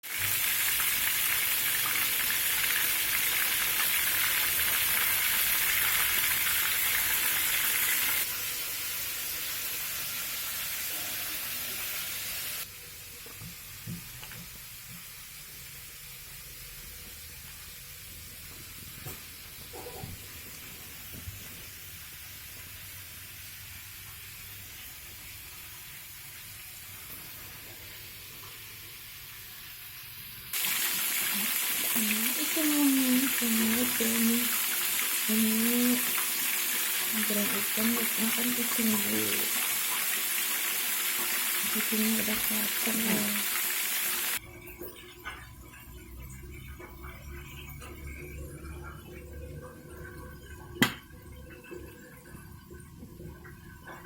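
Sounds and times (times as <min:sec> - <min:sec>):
fish sizzling in a pan: 0:00.0 - 0:44.4.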